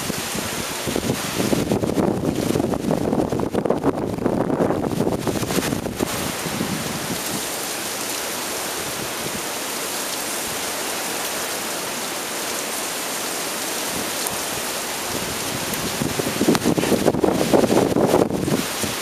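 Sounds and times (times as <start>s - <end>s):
heavy rain on pavement and roofs: 0.0s - 19.0s.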